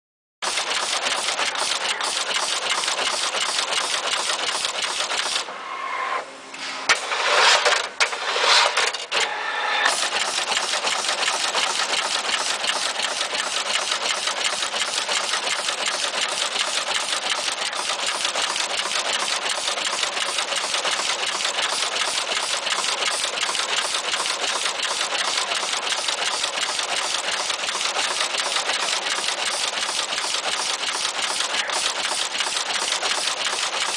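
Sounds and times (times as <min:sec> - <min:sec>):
irregular machine noise: 0:00.4 - 0:06.2, 0:06.8 - 0:33.9.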